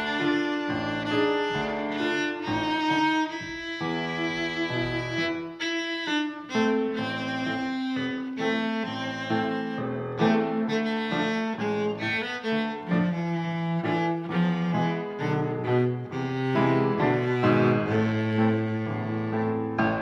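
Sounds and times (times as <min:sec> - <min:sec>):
bowed strings melody: 0:00.0 - 0:20.0.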